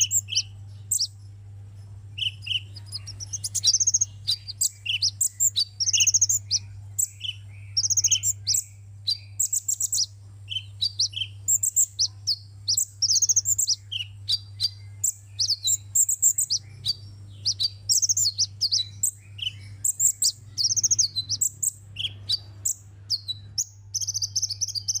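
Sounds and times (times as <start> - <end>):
bird chirping and trilling: 0.0 - 25.0
faint low hum: 0.0 - 25.0.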